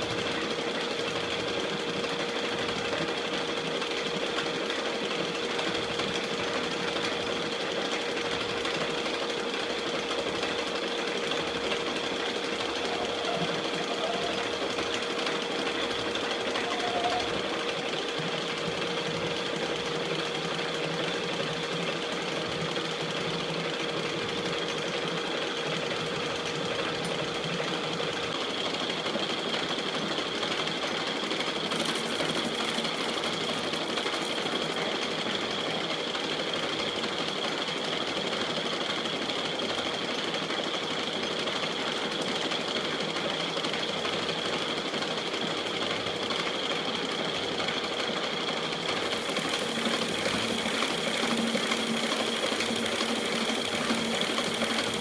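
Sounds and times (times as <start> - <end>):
metal lathe humming and whining: 0.0 - 55.0.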